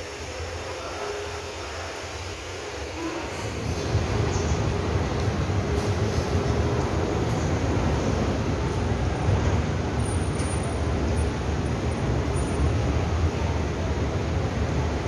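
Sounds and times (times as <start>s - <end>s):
train rumbling at platform: 0.0s - 15.0s.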